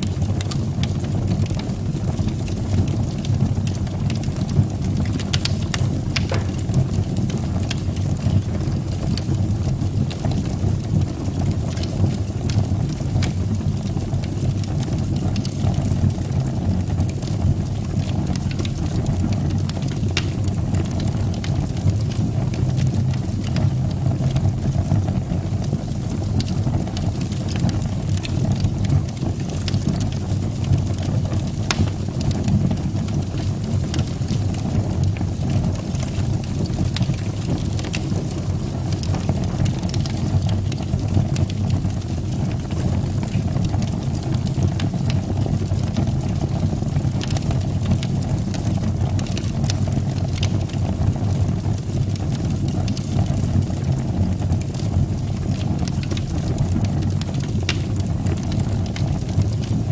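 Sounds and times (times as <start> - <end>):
fire crackles: 0.0 - 59.9
fire rumbling: 0.0 - 59.9.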